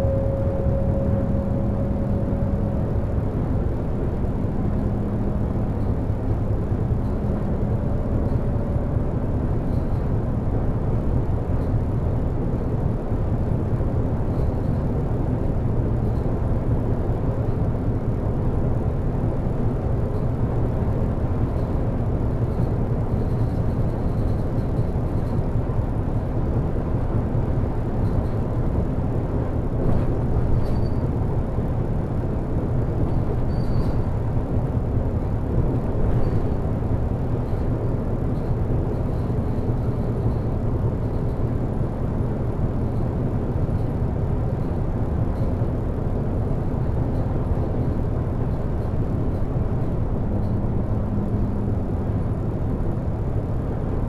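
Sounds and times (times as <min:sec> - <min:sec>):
bus diesel engine rumble: 0:00.0 - 0:54.0
road noise: 0:00.0 - 0:54.0.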